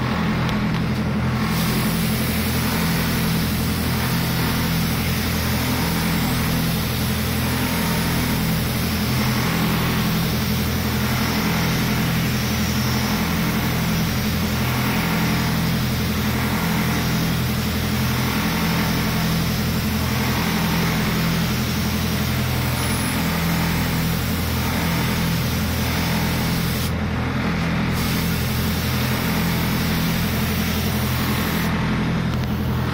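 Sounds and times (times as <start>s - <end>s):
low motor hum: 0.0s - 32.9s
spray gun hissing: 1.4s - 27.0s, 27.9s - 31.7s.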